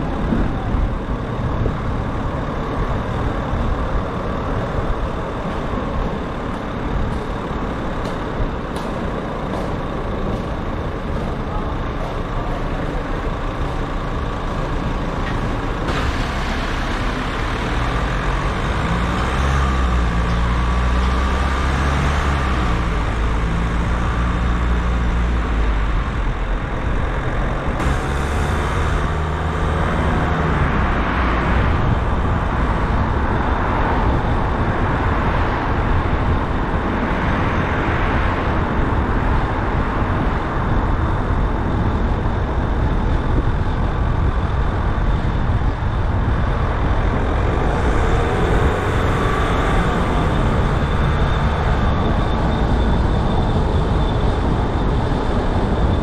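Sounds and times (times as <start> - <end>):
car engine accelerating: 0.0 - 56.0
road and traffic noise: 0.0 - 56.0.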